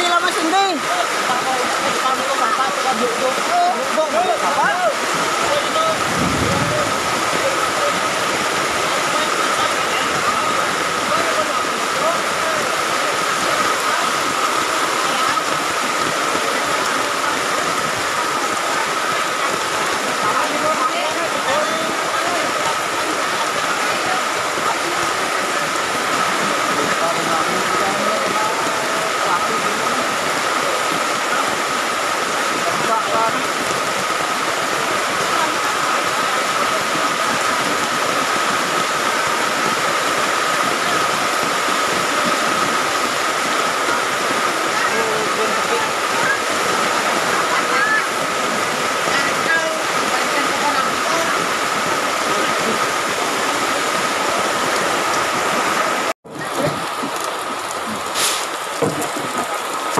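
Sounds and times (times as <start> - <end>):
floodwater rushing: 0.0 - 59.9
heavy rain: 0.0 - 59.9.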